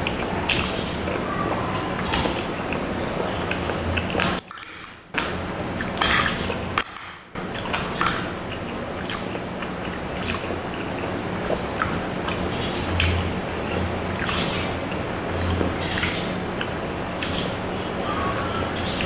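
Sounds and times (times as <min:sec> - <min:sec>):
chewing: 0:00.0 - 0:04.9, 0:05.8 - 0:17.5.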